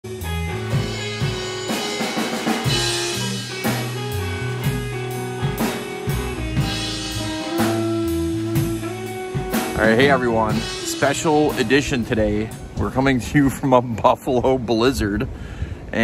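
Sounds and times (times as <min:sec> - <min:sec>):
instrumental band music: 0:00.0 - 0:13.5.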